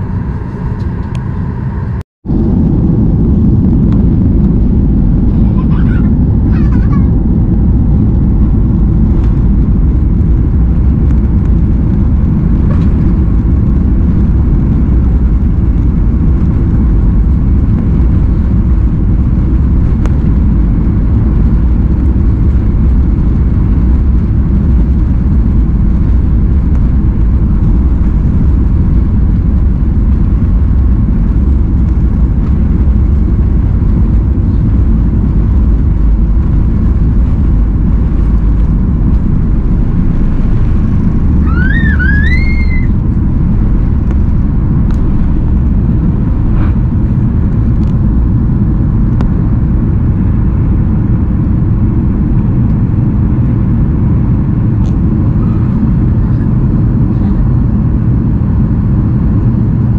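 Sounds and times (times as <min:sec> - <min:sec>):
jet engines low rumble: 0:00.0 - 0:59.9
wheels rolling on taxiway: 0:00.0 - 0:59.9.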